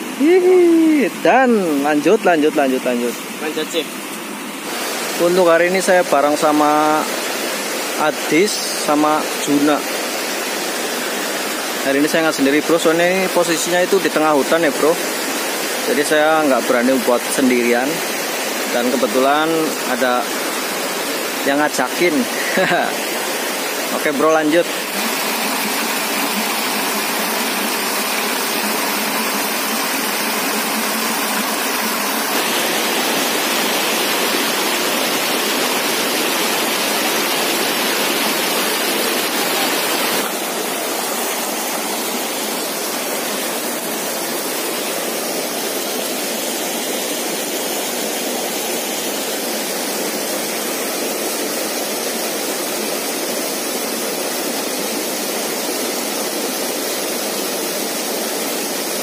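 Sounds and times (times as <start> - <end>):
stream rushing over rocks: 0.0 - 59.0
waterfall pouring into pool: 0.0 - 59.0.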